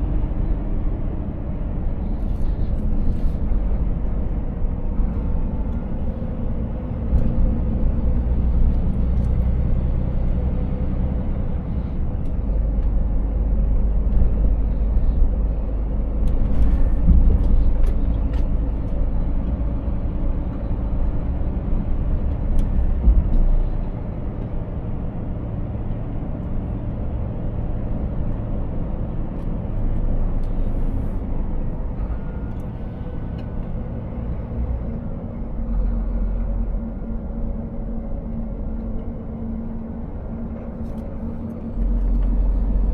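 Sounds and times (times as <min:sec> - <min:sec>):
truck engine drone: 0:00.0 - 0:42.9.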